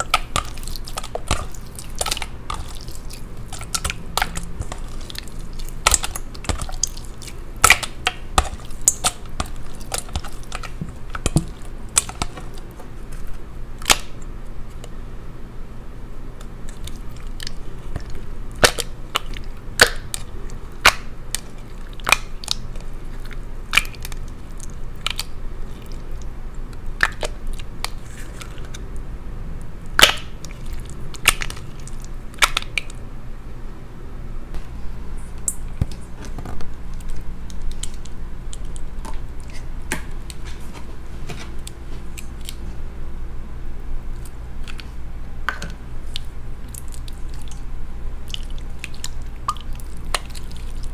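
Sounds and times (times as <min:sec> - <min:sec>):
sticky slime squishing: 0:00.0 - 0:15.0, 0:16.3 - 0:29.0, 0:29.6 - 0:33.0, 0:34.6 - 0:42.8, 0:44.0 - 0:50.9.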